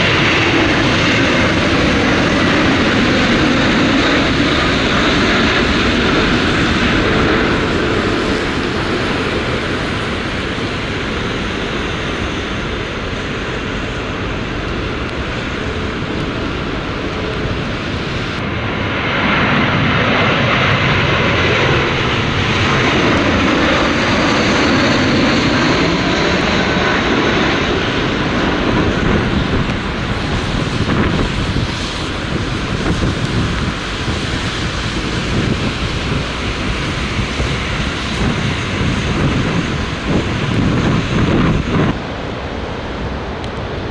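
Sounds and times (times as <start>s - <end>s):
jet engines roaring: 0.0s - 43.9s
wind buffeting microphone: 0.0s - 43.9s.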